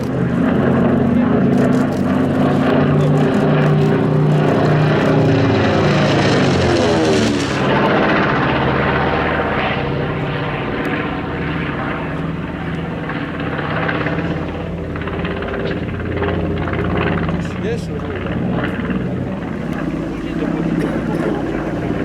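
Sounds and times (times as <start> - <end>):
propeller plane flying past: 0.0 - 22.0.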